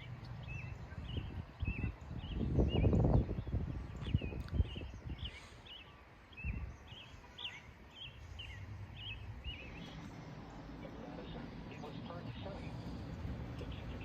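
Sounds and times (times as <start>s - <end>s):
bird chirping: 0.0s - 14.0s
low wind rumble: 0.0s - 14.0s.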